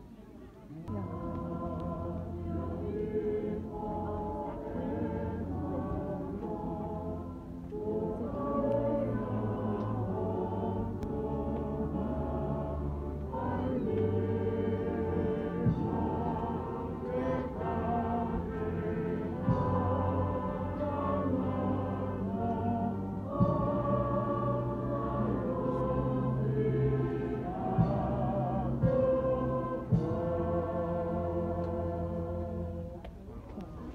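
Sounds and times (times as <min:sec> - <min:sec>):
choir singing a hymn: 0:00.8 - 0:33.9.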